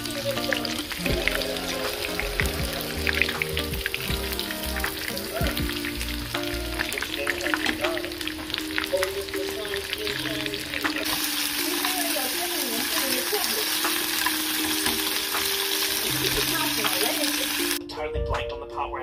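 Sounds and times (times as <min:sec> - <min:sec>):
cutlets frying in hot oil: 0:00.0 - 0:17.8.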